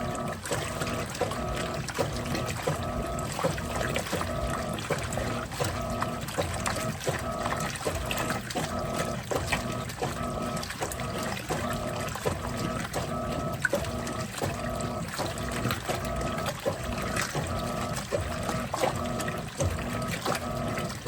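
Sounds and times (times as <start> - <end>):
washing machine motor humming: 0.0 - 21.0
water sloshing in tub: 0.0 - 21.0.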